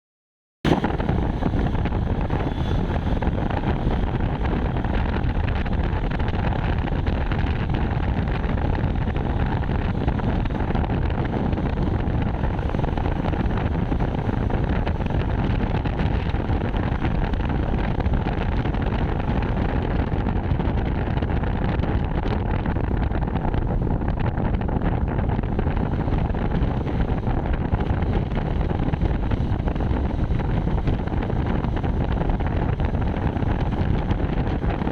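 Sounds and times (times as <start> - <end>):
wind buffeting microphone: 0.6 - 34.9
vehicle and road noise: 0.7 - 34.9.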